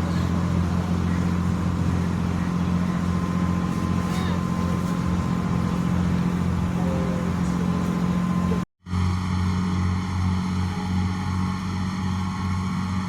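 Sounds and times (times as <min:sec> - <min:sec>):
boat engine drone: 0:00.0 - 0:13.0
thin steady whine: 0:00.0 - 0:13.0.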